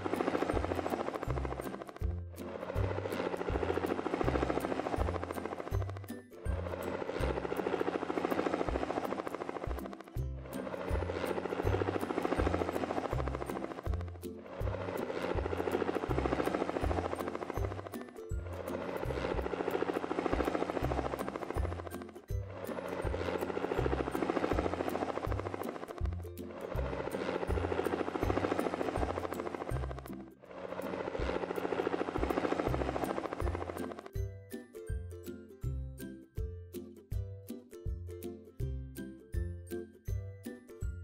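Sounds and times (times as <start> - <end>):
cartoon helicopter rotor chopping: 0.0 - 34.2.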